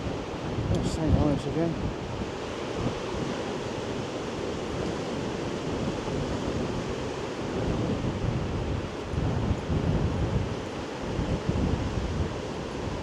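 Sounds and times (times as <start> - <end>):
sea surf washing on beach: 0.0 - 13.0
wind buffeting microphone: 0.0 - 13.0.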